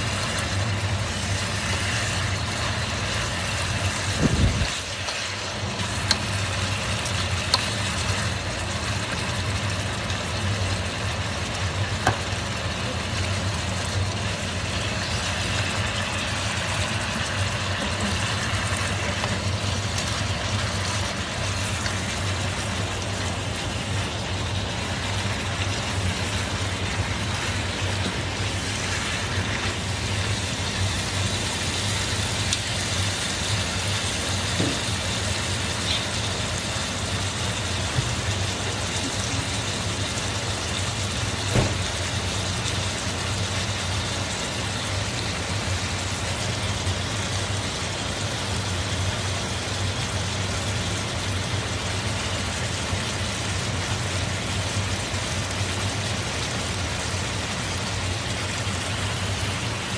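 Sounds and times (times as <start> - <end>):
meat sizzling in a frying pan: 0.0 - 59.9.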